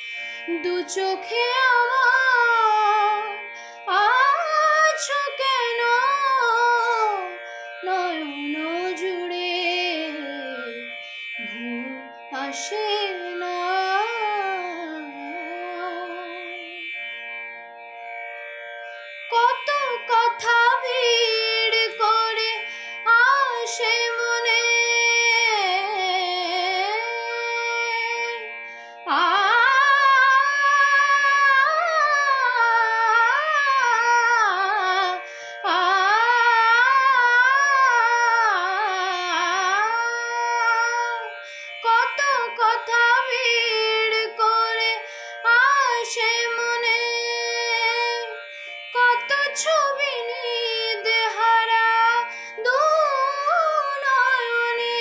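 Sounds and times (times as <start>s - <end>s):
woman singing: 0.0s - 16.8s, 19.3s - 55.0s.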